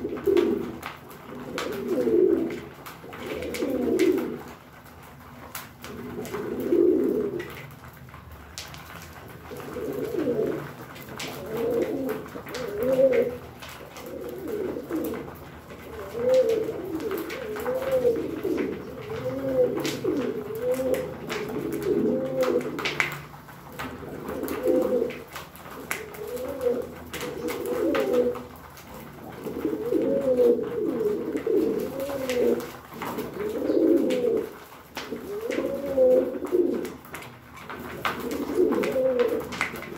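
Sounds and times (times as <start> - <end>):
pigeons cooing: 0.0 - 8.1, 8.9 - 39.9.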